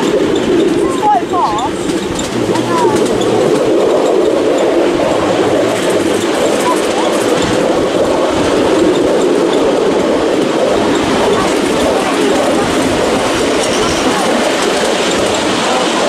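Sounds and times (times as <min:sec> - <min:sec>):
miniature train wheels on rail: 0:00.0 - 0:16.0.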